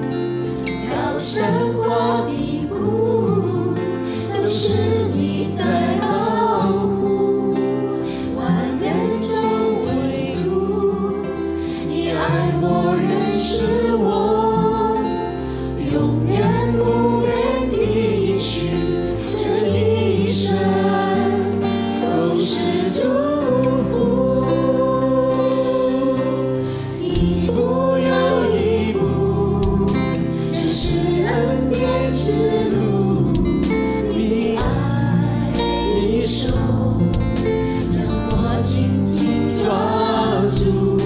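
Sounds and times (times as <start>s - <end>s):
group singing worship song: 0.0s - 41.0s
instrumental backing with bass: 0.0s - 41.0s.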